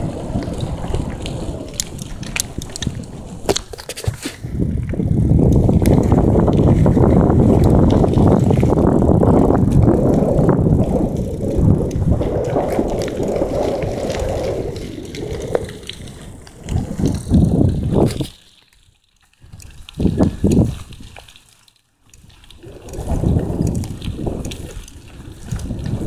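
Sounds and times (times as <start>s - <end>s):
wind rushing on microphone: 0.0s - 18.4s, 19.4s - 21.3s, 22.1s - 26.0s
bike rattling clicks: 0.0s - 26.0s
bike tyre noise: 0.0s - 26.0s.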